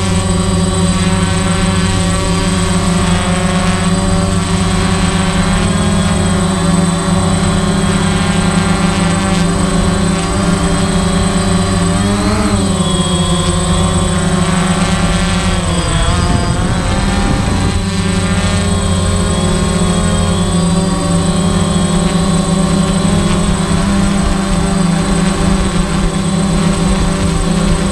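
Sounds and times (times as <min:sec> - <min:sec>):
drone propellers whining: 0:00.0 - 0:27.9.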